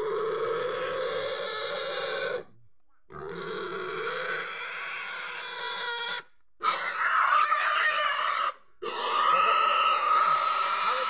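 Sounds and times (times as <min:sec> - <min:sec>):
pig screaming: 0:00.0 - 0:02.5, 0:03.2 - 0:11.0.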